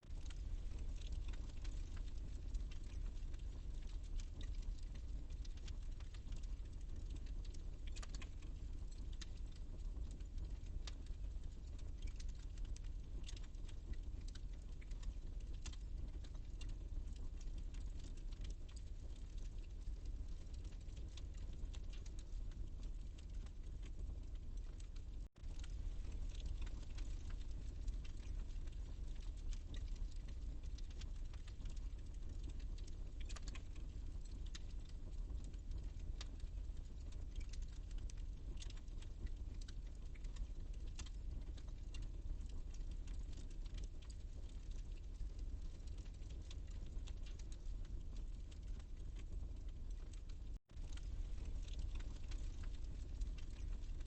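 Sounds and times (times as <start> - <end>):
fire low rumble: 0.0 - 54.0
wood fire crackling: 0.0 - 54.0.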